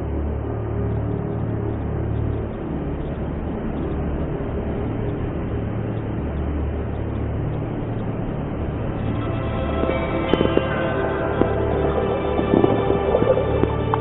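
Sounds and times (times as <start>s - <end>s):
even wash of noise: 0.0s - 14.0s
low droning rumble: 0.0s - 14.0s.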